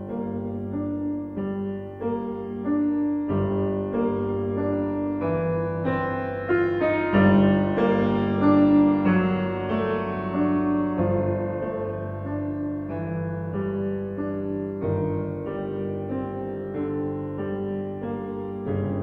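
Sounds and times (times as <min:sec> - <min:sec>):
gentle piano melody with bass: 0:00.0 - 0:19.0.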